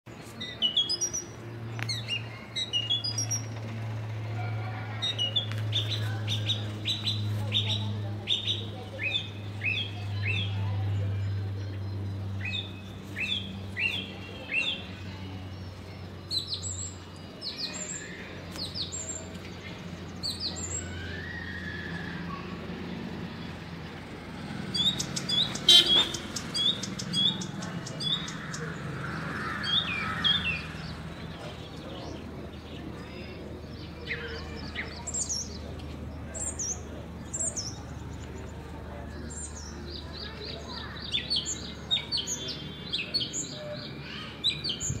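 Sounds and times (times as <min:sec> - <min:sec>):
small birds chirping: 0:00.1 - 0:03.8, 0:04.7 - 0:45.0.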